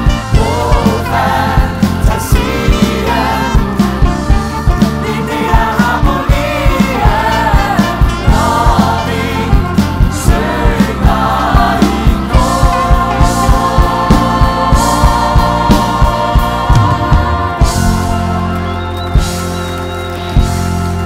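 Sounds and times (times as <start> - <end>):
large cast singing together: 0.0 - 19.3
band with steady drum beat: 0.0 - 21.0.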